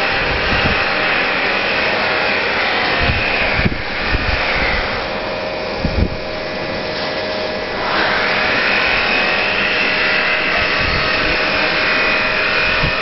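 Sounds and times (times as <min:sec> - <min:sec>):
constant hum: 0:00.0 - 0:13.0
high whine: 0:00.0 - 0:13.0
vending machine fan whir: 0:00.0 - 0:13.0.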